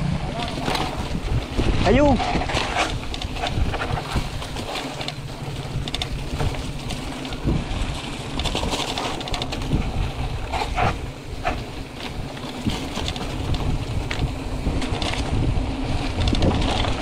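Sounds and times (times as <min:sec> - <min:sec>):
mountain bike rattling on rocky trail: 0:00.0 - 0:17.0
wind on microphone: 0:00.0 - 0:17.0.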